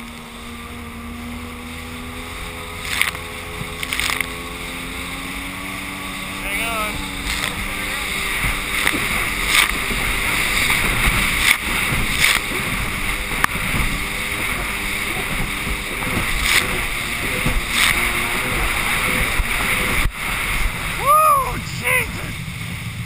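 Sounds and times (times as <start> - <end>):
hull slapping water: 0.0 - 23.0
rushing water and wind: 0.0 - 23.0
watercraft engine drone: 0.0 - 23.0.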